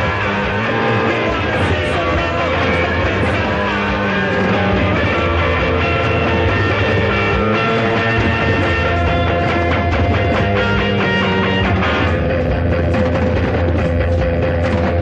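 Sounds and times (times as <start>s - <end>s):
rock band playing instrumental: 0.0s - 15.0s.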